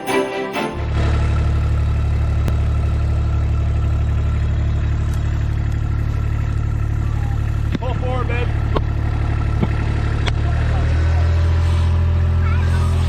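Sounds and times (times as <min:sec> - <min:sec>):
utility vehicle engine droning: 0:00.0 - 0:13.0.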